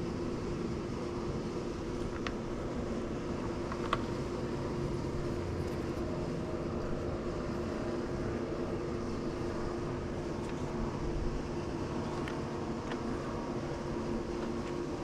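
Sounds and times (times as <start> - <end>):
pool pump motor humming: 0.0 - 15.0.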